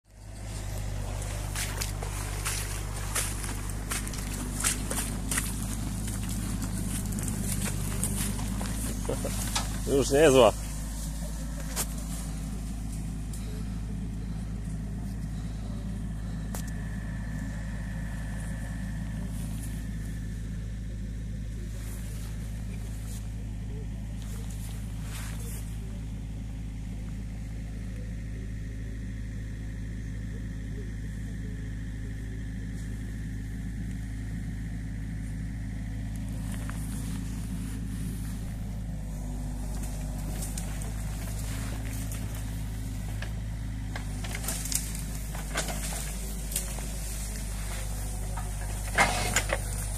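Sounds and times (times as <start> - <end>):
distant diesel engine running: 0.0 - 49.9
rustling and crackling: 0.1 - 27.8, 32.6 - 49.9.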